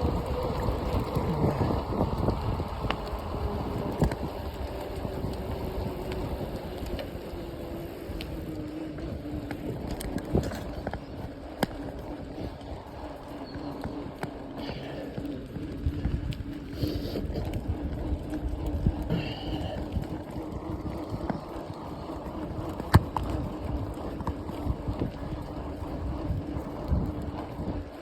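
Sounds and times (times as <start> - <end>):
bicycle rolling rumble: 0.0 - 28.0
steady low hum: 0.0 - 28.0
wind buffeting microphone: 0.0 - 28.0.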